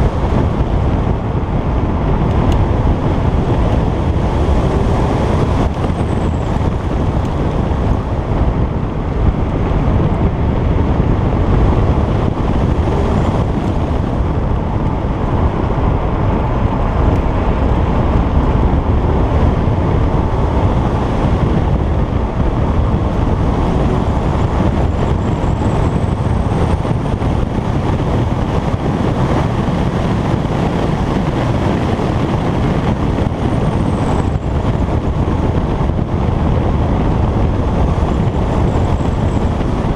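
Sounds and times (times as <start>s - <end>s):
car engine running: 0.0s - 39.9s
wind noise on microphone: 0.0s - 39.9s.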